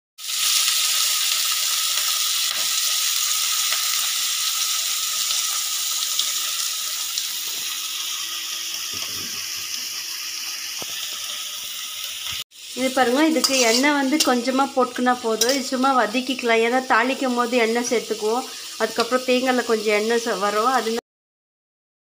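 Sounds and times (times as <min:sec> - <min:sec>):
vegetables sizzling in hot oil: 0:00.2 - 0:21.0.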